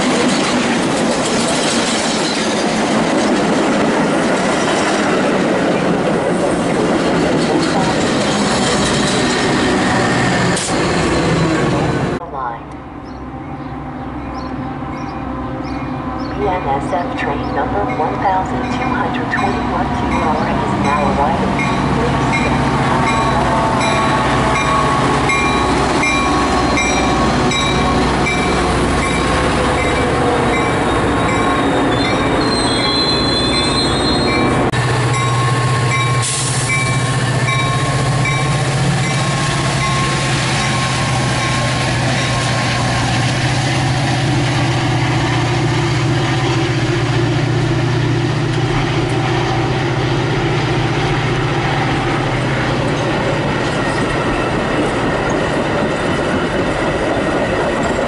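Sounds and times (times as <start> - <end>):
diesel locomotive drone: 0.0 - 58.0
train rumbling on rails: 0.0 - 58.0.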